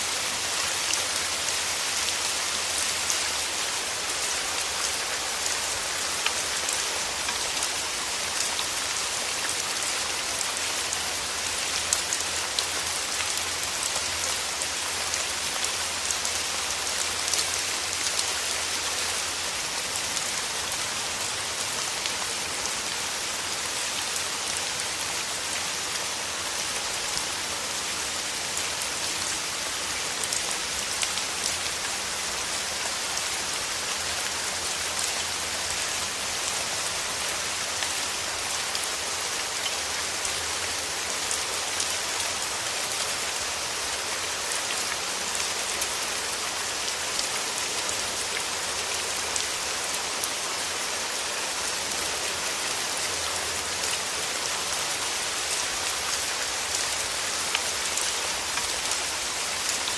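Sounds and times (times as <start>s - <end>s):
rain falling on petals: 0.0s - 59.9s.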